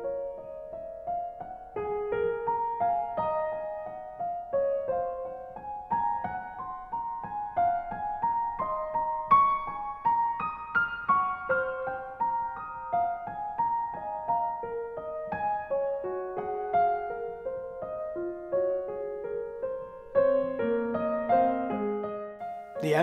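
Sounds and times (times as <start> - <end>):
gentle keyboard melody: 0.0 - 23.0.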